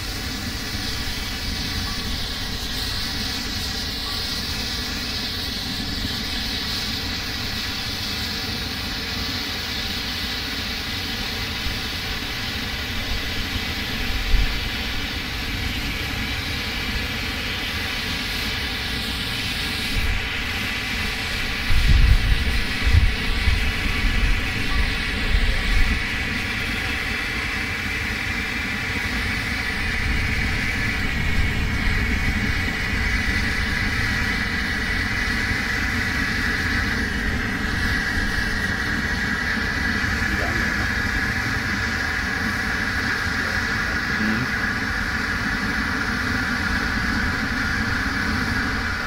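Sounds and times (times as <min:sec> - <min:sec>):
fire pot burning with hiss: 0:00.0 - 0:49.0.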